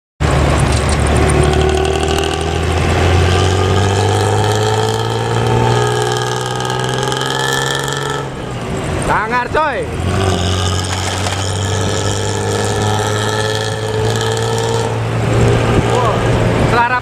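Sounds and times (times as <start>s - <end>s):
diesel bus engine growling: 0.2s - 17.0s.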